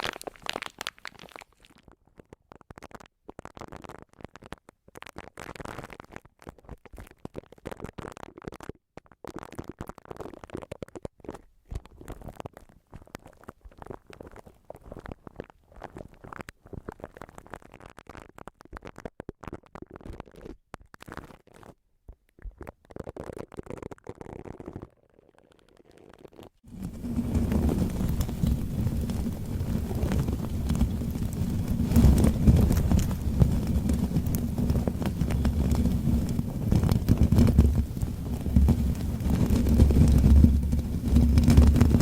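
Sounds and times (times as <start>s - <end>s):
close scratching and crackling: 0.0s - 42.0s.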